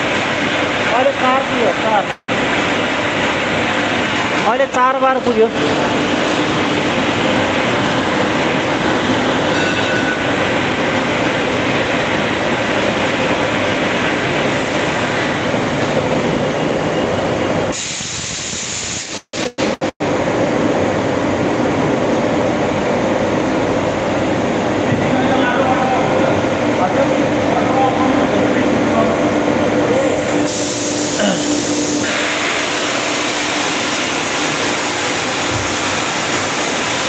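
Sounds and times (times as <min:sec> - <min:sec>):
machinery running loudly: 0:00.0 - 0:17.9, 0:19.0 - 0:37.0.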